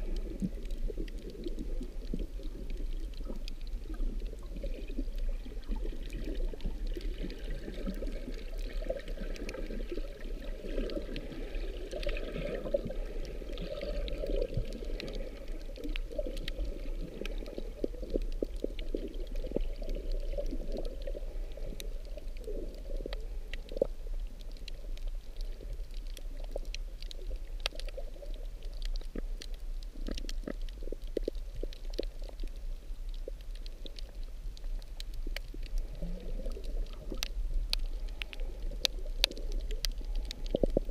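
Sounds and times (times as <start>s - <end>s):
faint clicks: 0.0s - 40.9s
muffled underwater sloshing: 0.0s - 40.9s.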